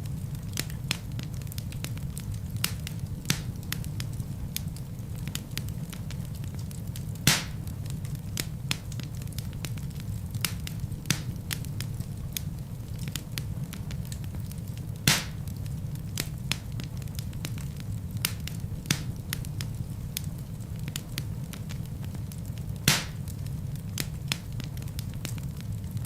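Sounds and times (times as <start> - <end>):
burning logs popping: 0.0 - 26.0
fire rumbling and crackling: 0.0 - 26.0.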